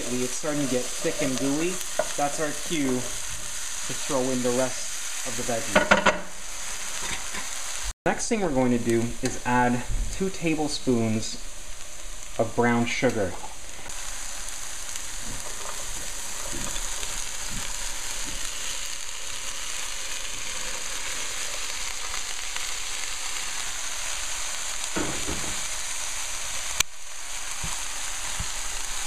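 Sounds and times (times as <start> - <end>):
stirring in a pan: 0.0 - 7.9, 8.9 - 29.0
onions sizzling in a pan: 0.0 - 29.0.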